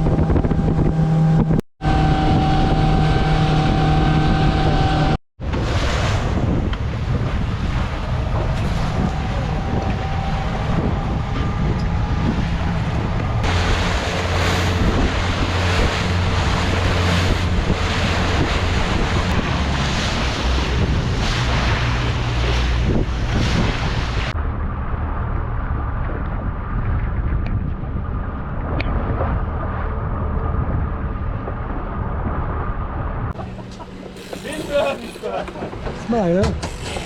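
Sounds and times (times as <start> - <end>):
boat engine droning: 0.0 - 25.9, 29.1 - 37.0
rushing wind and water: 0.0 - 37.0
wind buffeting microphone: 0.0 - 37.0.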